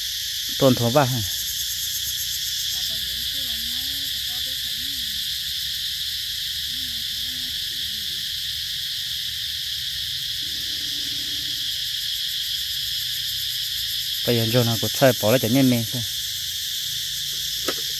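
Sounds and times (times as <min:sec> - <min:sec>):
insect chorus drone: 0:00.0 - 0:17.9.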